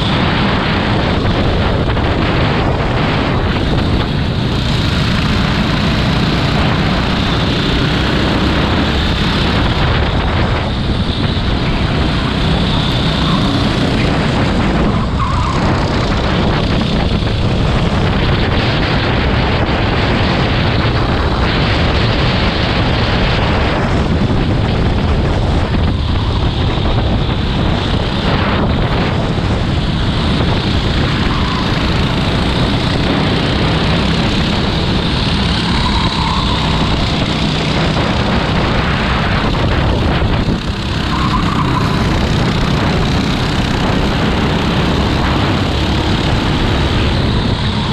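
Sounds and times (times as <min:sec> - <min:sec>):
go-kart engine: 0:00.0 - 0:47.9.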